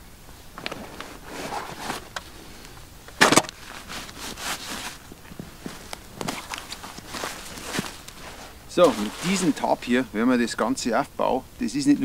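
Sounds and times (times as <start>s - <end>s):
rustling of backpack: 0.3s - 10.0s.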